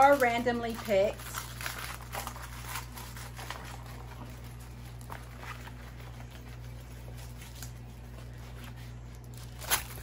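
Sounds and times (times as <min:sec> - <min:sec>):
plastic packaging crinkling: 0:00.0 - 0:10.0
steady low hum: 0:00.0 - 0:10.0.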